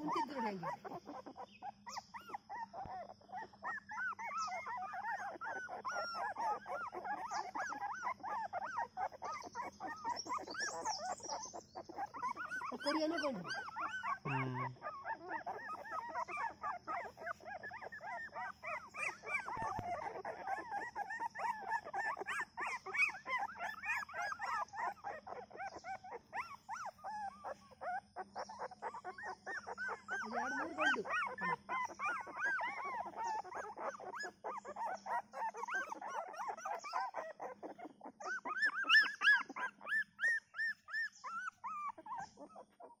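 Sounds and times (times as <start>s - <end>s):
puppies whimpering and squeaking: 0.0s - 43.0s.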